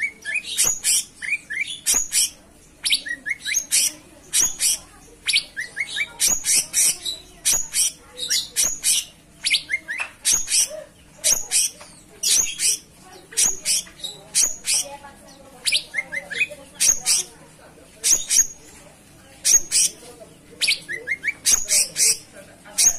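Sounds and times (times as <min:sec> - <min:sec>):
bird chirping: 0:00.0 - 0:17.3, 0:18.0 - 0:18.8, 0:19.4 - 0:22.9.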